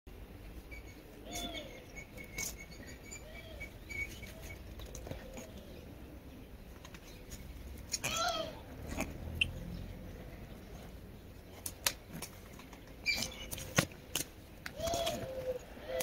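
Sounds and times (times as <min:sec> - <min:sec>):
small bird chirping: 0:00.6 - 0:13.8.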